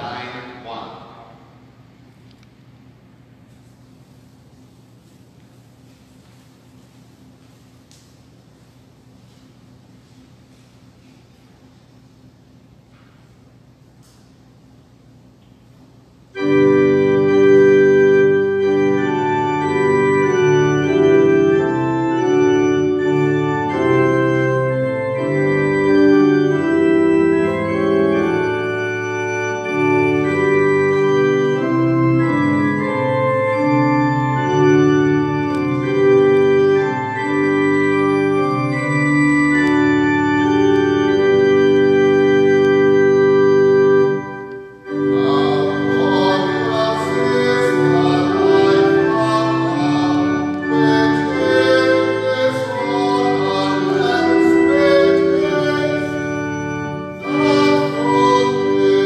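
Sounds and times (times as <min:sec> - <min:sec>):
organ playing sustained chords: 0:00.0 - 0:59.0.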